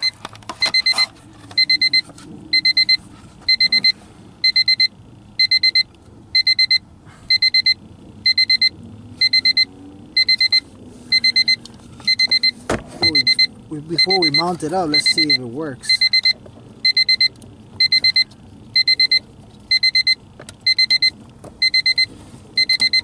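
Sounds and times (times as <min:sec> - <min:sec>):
dashboard warning beeps: 0:00.0 - 0:23.0.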